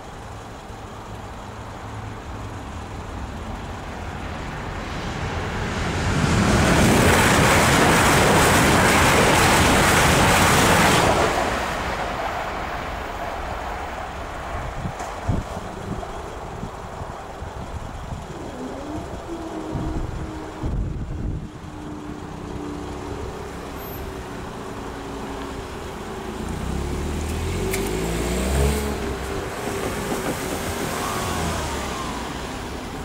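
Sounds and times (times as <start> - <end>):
train passing with wheel-on-rail noise: 0.0 - 33.0.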